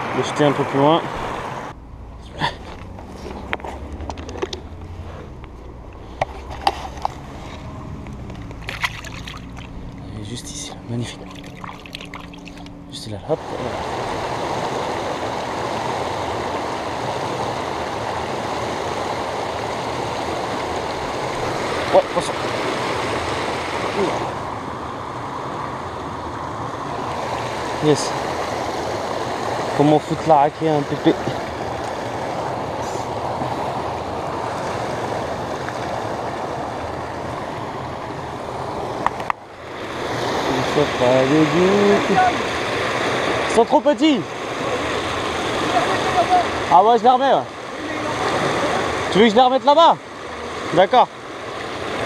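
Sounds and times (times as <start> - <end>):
white water rushing: 0.0 - 52.0.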